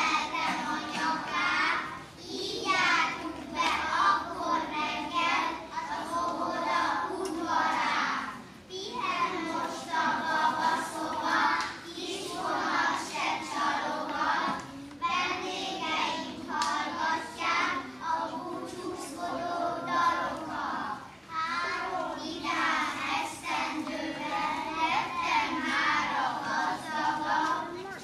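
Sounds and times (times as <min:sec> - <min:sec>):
young children singing: 0:00.0 - 0:28.0.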